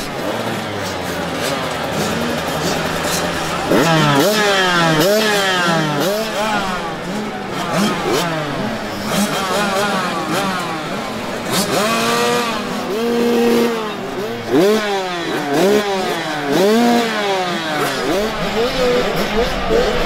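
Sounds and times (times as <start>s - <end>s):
motocross motorcycles revving: 0.0s - 20.0s.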